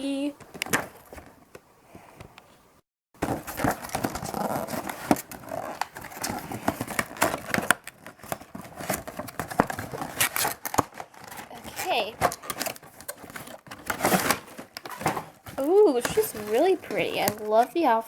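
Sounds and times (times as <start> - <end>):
doll packaging rustling: 3.2 - 18.0.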